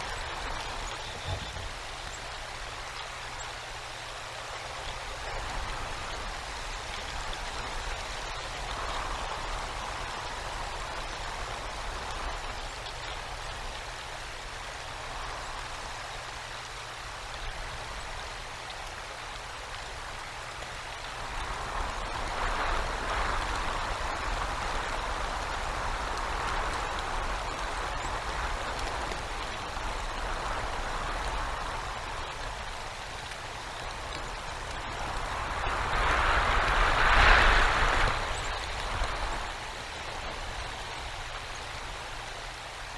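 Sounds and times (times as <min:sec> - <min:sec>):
gusting wind: 0:00.0 - 0:42.9
icy rain: 0:00.0 - 0:42.9.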